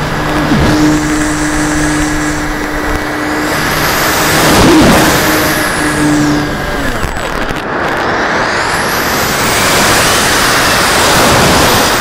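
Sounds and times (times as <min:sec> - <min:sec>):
air rushing: 0:00.0 - 0:12.0
model airplane motor humming: 0:00.0 - 0:12.0.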